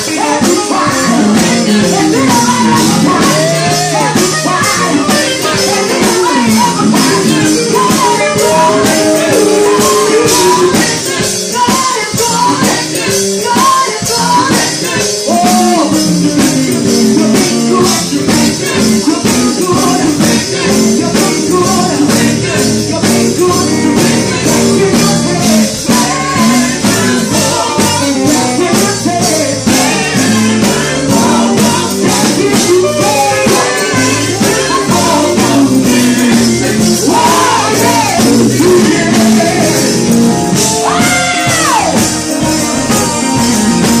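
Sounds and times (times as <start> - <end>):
amplified band accompaniment: 0.0 - 44.0
vocal group singing gospel: 0.0 - 44.0.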